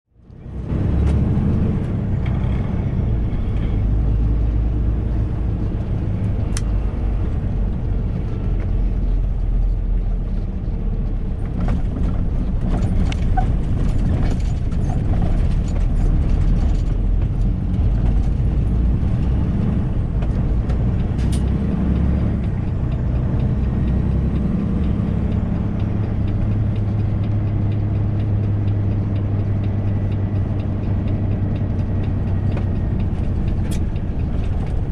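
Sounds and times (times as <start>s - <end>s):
diesel truck engine drone: 0.1s - 34.9s.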